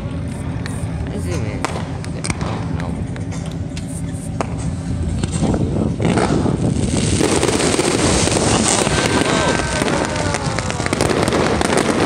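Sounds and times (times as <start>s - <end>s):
fireworks bangs and crackle: 0.1s - 12.0s.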